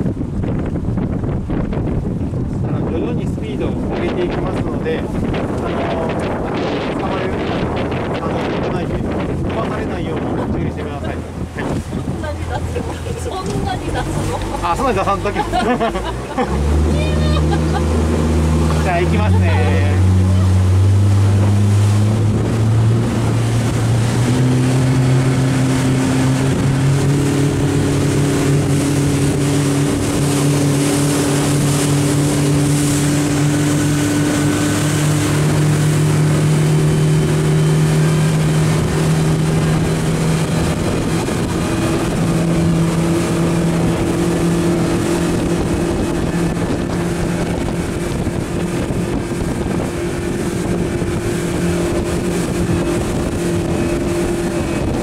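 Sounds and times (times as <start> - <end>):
motorboat engine hum: 0.0 - 55.0
wind and water rushing: 0.0 - 55.0.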